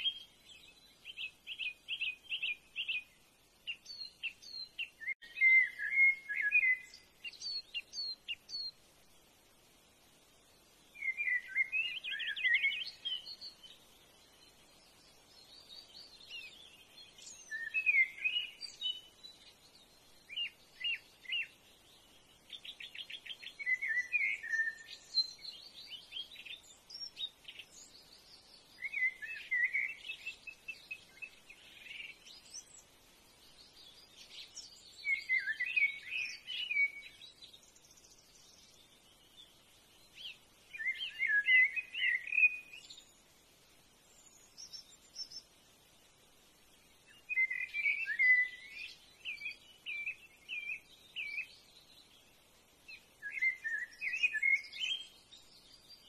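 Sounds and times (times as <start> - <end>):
birds singing and calling: 0.0 - 8.8, 10.6 - 43.4, 44.0 - 45.8, 46.7 - 56.0.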